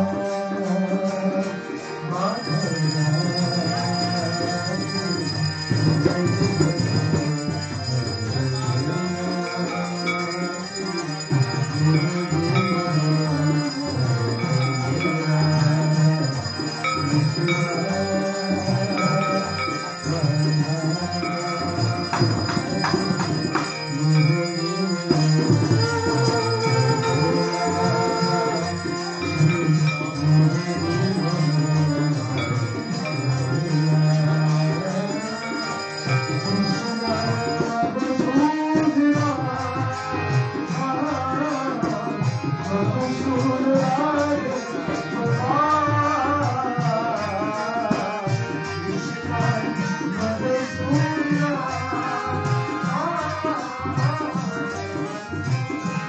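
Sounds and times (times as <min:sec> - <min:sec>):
harmonium melody: 0:00.0 - 0:56.0
man singing: 0:00.0 - 0:56.0
tabla drumming: 0:00.0 - 0:56.0.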